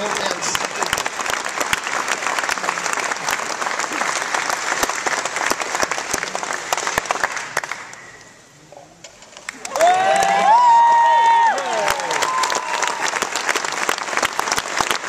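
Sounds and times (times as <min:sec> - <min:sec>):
audience applauding: 0:00.0 - 0:08.0, 0:09.4 - 0:15.0.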